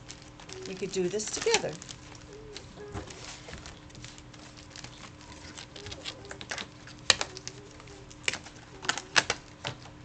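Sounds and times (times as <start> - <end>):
faint steady hum: 0.0 - 10.0
cards clicking and tapping: 0.2 - 10.0.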